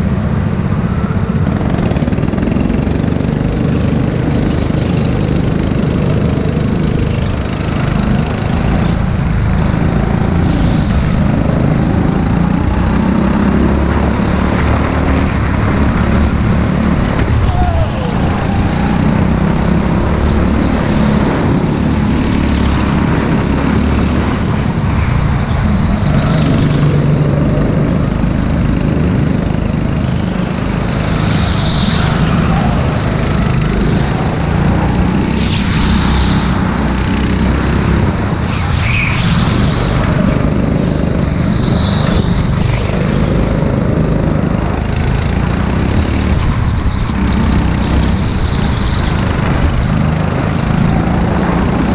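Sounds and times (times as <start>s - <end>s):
go-kart engine running: 0.0s - 51.9s.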